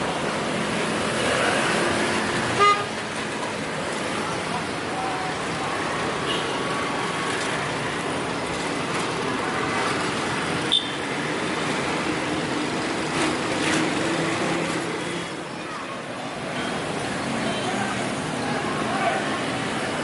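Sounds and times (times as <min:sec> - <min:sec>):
passing traffic rumble: 0:00.0 - 0:20.0.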